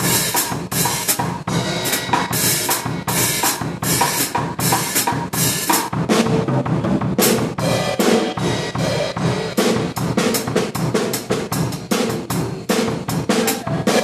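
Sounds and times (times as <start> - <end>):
bass drum and snare beat: 0.0 - 14.0.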